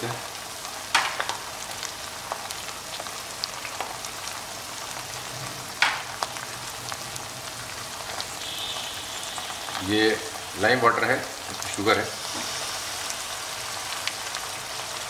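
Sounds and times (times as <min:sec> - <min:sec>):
onion paste sizzling in fat: 0:00.0 - 0:15.0.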